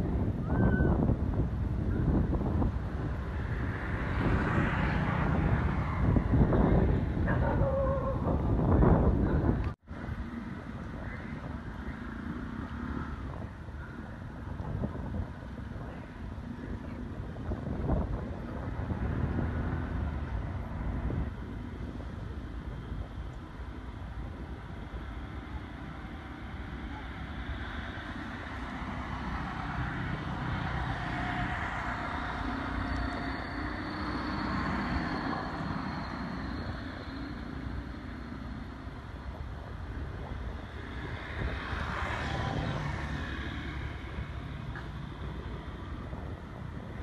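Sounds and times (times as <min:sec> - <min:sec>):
low traffic rumble: 0:00.0 - 0:47.0
vehicles passing: 0:00.0 - 0:47.0.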